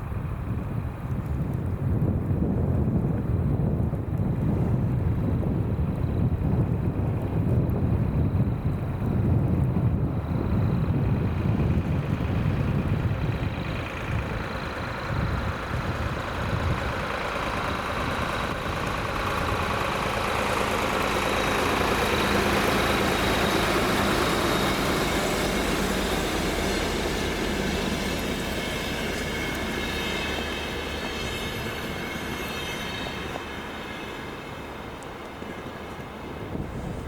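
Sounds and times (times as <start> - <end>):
train passing on rails: 0.0 - 37.0.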